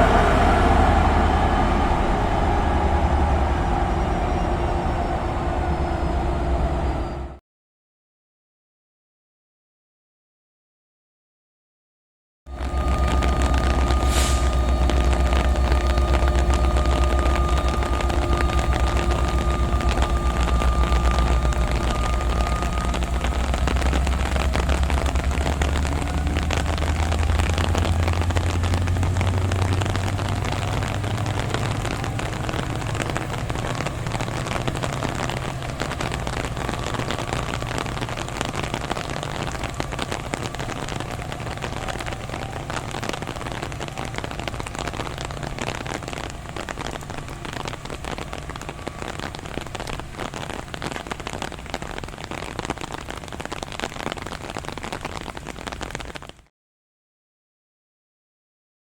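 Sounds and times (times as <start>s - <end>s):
deep low thunder rumble: 0.0s - 7.4s, 12.5s - 54.0s
heavy rain falling: 0.0s - 7.4s, 12.5s - 56.5s.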